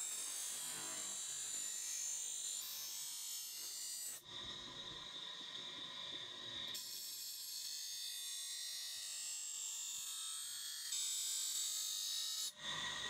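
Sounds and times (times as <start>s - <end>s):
power tool high-pitched hiss: 0.0s - 13.0s.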